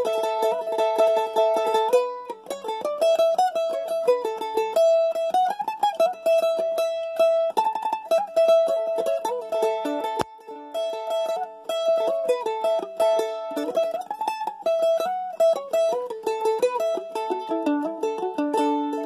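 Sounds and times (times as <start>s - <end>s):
mandolin tremolo melody: 0.0s - 19.0s.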